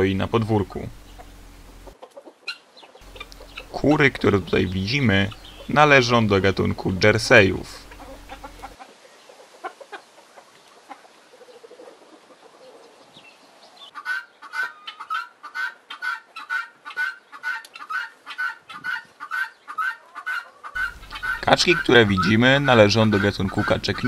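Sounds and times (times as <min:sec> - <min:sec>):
faint farmyard sounds: 0:00.0 - 0:24.0
guinea fowl calling: 0:00.9 - 0:24.0.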